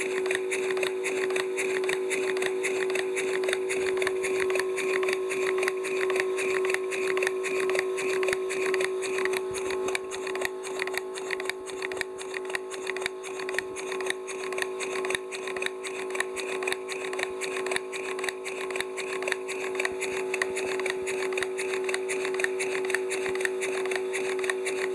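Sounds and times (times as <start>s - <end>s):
air compressor hum: 0.0s - 24.9s
rattling valve-gear linkage: 0.0s - 24.9s.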